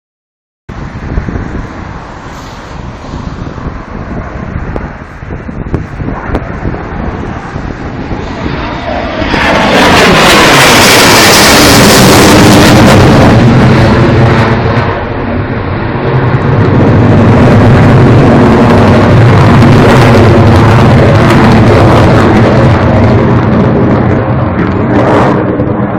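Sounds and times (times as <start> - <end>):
jet aircraft flying past: 0.7 - 25.9.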